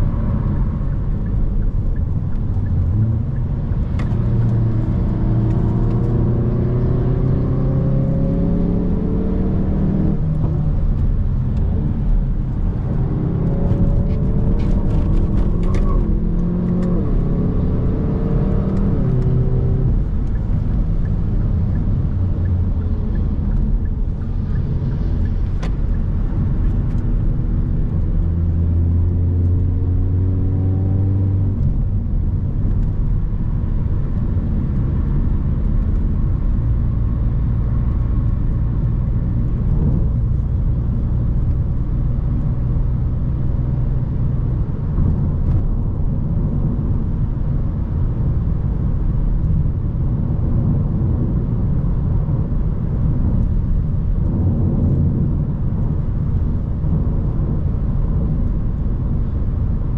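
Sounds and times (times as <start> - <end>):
car engine accelerating: 0.0 - 59.9
road rumble: 0.0 - 59.9.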